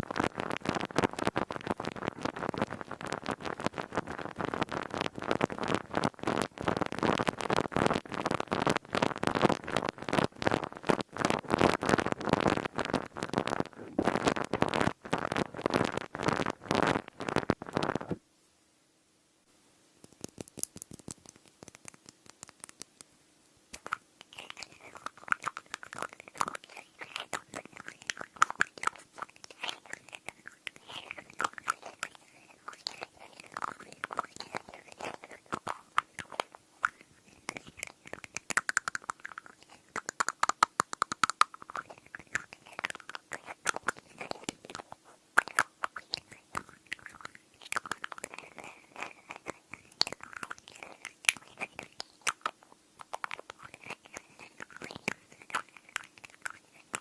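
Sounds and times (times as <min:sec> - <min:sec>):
crinkly material crackling: 0:00.0 - 0:18.2, 0:23.7 - 0:57.0.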